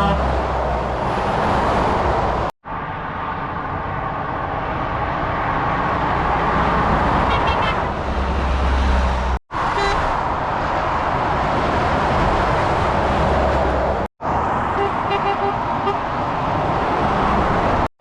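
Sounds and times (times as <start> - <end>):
motorway traffic rushing past: 0.0 - 17.9.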